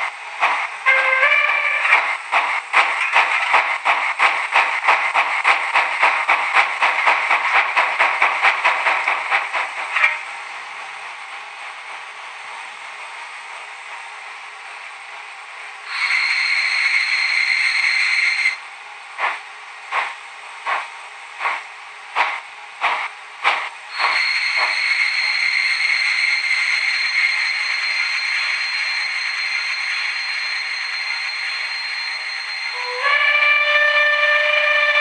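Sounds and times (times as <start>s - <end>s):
steam hissing: 0.0s - 13.8s, 15.9s - 18.6s, 19.2s - 33.3s
steam locomotive exhaust chuffs: 0.0s - 13.9s, 15.8s - 35.0s.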